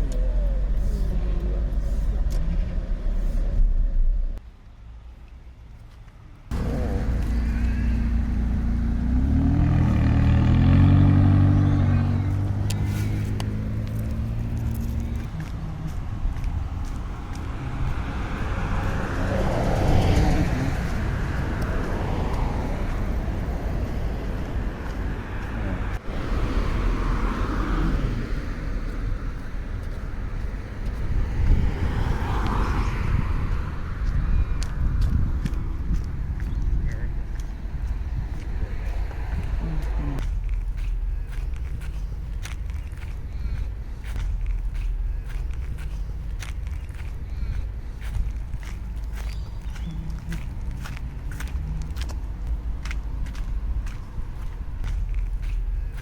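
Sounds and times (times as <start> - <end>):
car engine accelerating: 0.0 - 4.4, 6.5 - 33.8, 34.6 - 56.0
low traffic rumble: 0.0 - 56.0.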